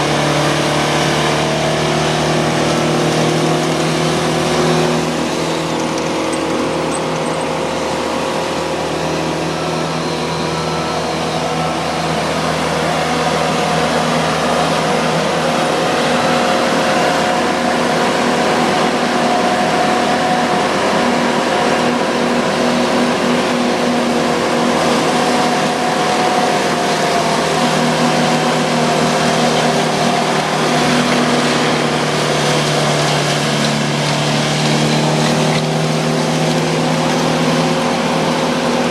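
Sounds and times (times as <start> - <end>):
skid steer engine running: 0.0 - 38.9
wood chipper engine running: 0.0 - 38.9.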